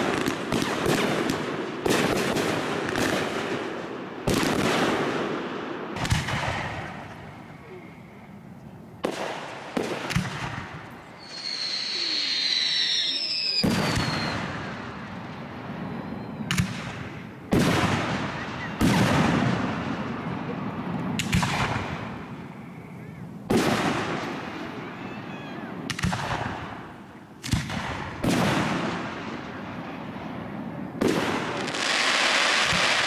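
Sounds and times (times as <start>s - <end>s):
firework shells booming: 0.0s - 8.0s, 9.0s - 25.0s, 25.8s - 33.0s.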